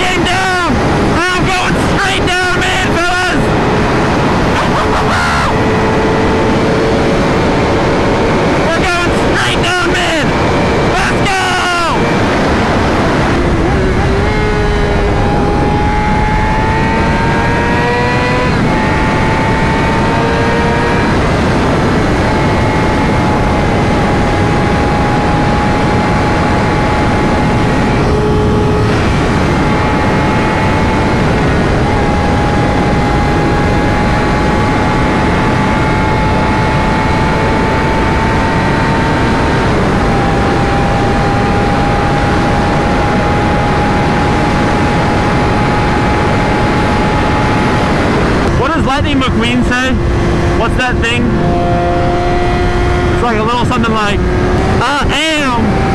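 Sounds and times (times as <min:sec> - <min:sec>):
wind noise on microphone: 0:00.0 - 0:09.4, 0:11.9 - 0:55.9
motorcycle engine cruising: 0:00.0 - 0:55.9.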